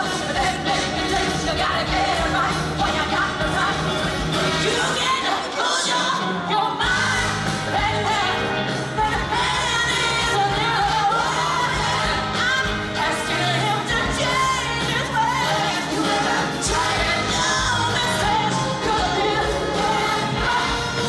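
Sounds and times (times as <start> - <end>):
person singing lead vocals: 0.0 - 21.0
pop band playing: 0.0 - 21.0.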